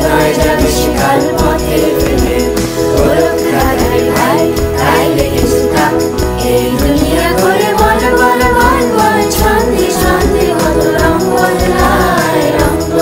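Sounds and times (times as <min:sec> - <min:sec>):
instrumental accompaniment: 0:00.0 - 0:13.0
light percussion: 0:00.0 - 0:13.0
voices singing together: 0:00.0 - 0:13.0.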